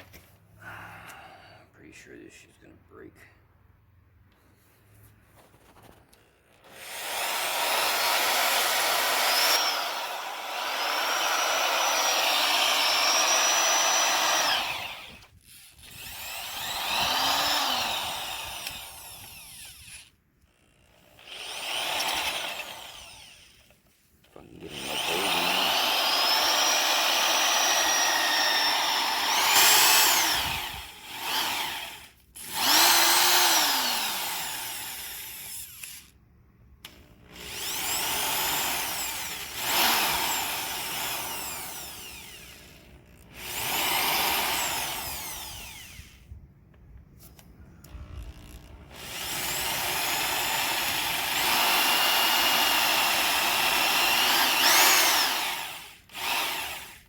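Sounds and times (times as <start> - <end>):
electric drill whining: 5.9 - 36.2, 36.8 - 46.4, 47.3 - 57.0.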